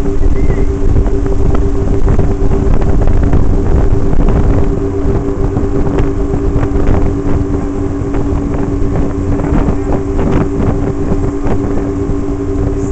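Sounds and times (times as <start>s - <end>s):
hull rumbling on water: 0.0s - 12.9s
motorboat engine drone: 0.0s - 12.9s
wind buffeting microphone: 0.0s - 12.9s.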